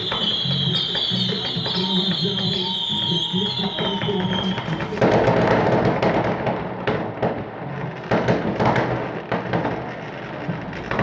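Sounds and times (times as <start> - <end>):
fireworks bangs echoing: 0.0 - 11.0.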